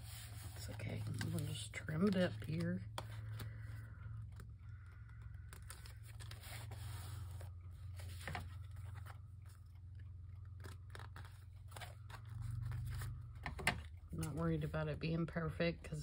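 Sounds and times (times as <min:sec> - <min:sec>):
paper rustling: 0:00.0 - 0:14.7
steady low hum: 0:00.0 - 0:16.0.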